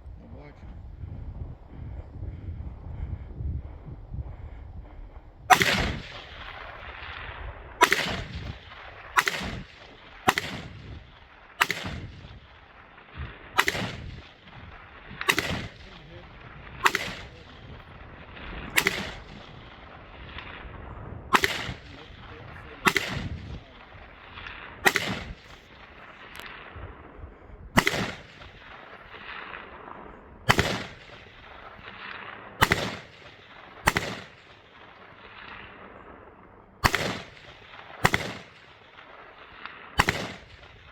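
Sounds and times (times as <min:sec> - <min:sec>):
gunshots with echo: 0:05.5 - 0:27.2, 0:27.8 - 0:40.9.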